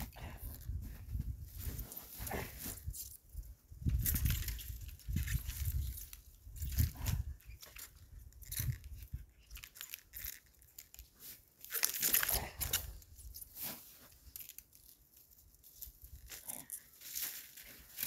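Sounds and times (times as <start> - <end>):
stiff hide rustling and crunching on snow: 0.0 - 18.0.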